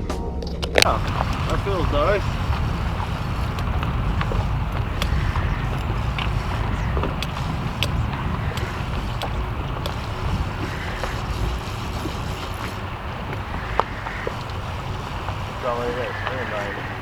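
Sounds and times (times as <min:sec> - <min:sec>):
boat motor rumbling: 0:00.8 - 0:17.0
wind on microphone: 0:00.8 - 0:17.0.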